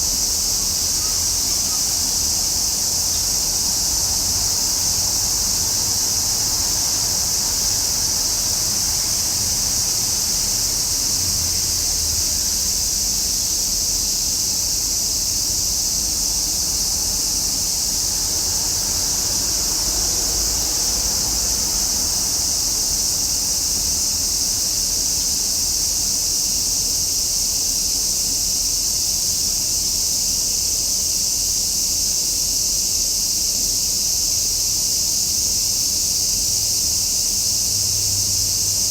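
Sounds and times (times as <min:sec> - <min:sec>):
cicadas buzzing: 0:00.0 - 0:38.9.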